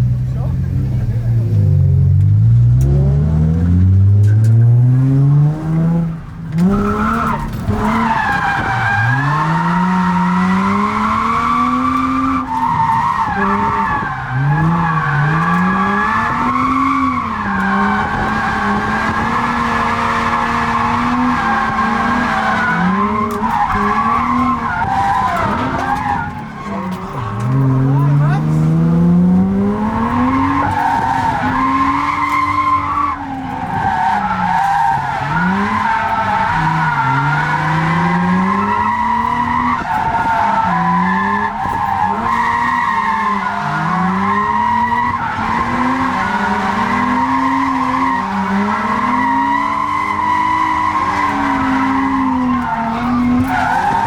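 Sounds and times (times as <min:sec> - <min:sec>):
car engine revving: 0:00.0 - 0:54.0
tyres squealing: 0:06.6 - 0:28.9, 0:29.5 - 0:54.0.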